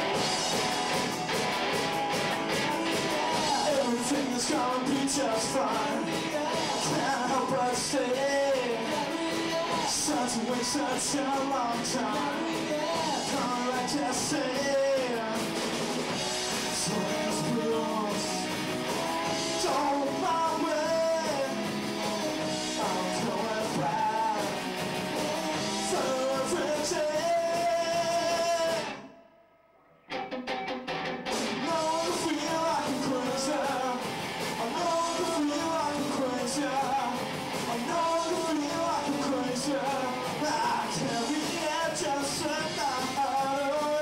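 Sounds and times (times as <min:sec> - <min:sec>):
person singing: 0:00.0 - 0:15.6, 0:16.4 - 0:29.2, 0:31.5 - 0:44.0
drums: 0:00.0 - 0:29.2, 0:30.1 - 0:44.0
electric guitars: 0:00.0 - 0:29.2, 0:29.8 - 0:44.0.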